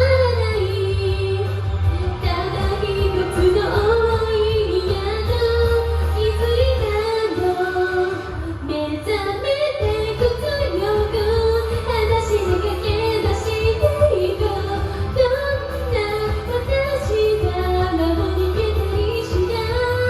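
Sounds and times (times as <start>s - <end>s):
karaoke backing track: 0.0s - 20.0s
woman singing pop song: 0.0s - 20.0s.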